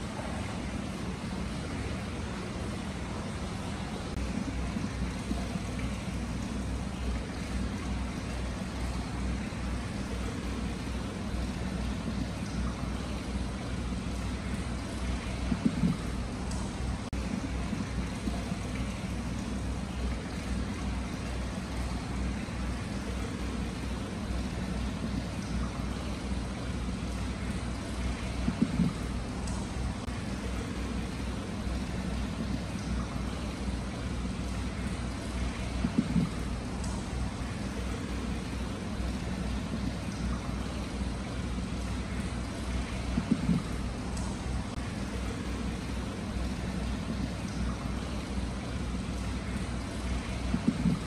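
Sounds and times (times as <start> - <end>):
water pouring into a basin: 0.0 - 51.0.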